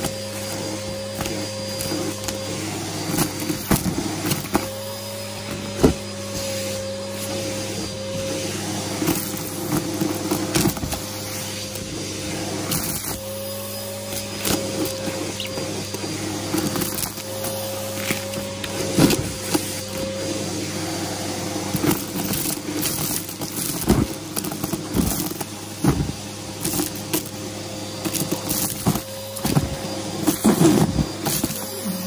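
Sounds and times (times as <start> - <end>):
vacuum cleaner motor hum: 0.0 - 32.0.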